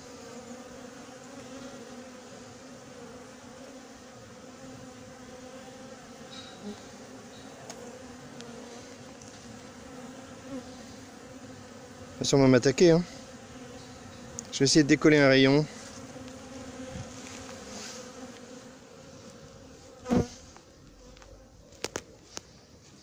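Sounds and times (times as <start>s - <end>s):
bees buzzing: 0.0s - 22.7s.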